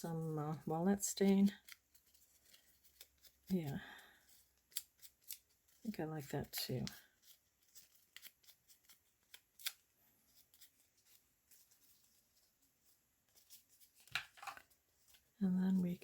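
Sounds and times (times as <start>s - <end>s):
paper rustling: 0.5s - 5.8s, 6.5s - 16.0s.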